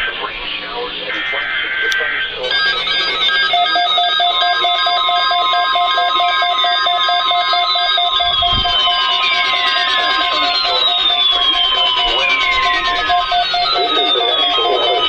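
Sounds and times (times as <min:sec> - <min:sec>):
rapid electronic beeping: 0:00.0 - 0:15.0.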